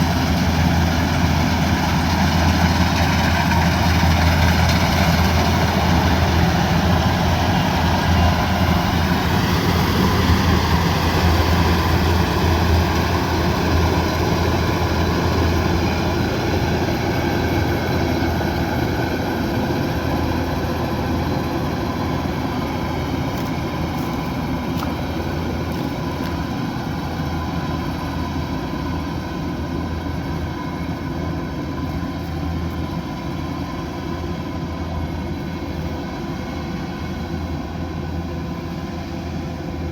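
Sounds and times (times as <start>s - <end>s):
diesel engine humming: 0.0s - 36.8s.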